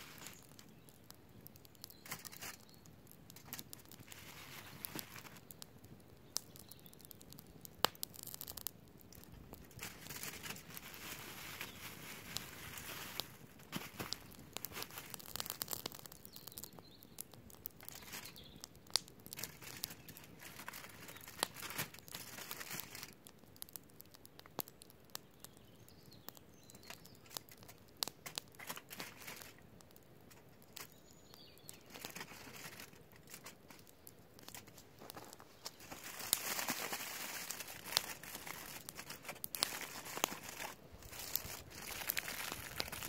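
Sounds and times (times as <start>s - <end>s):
food wrapping crinkling and tearing: 0.0s - 25.5s, 26.6s - 43.0s.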